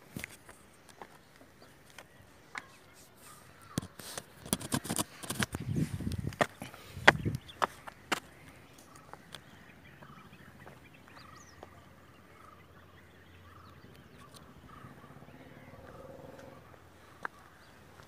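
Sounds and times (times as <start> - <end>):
distant bird calls: 0.0 - 18.0.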